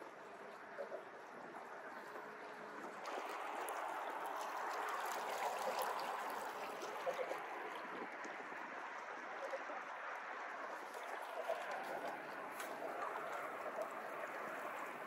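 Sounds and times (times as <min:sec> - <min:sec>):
small splashes: 0:00.0 - 0:15.0
water rushing along boat hull: 0:00.0 - 0:15.0.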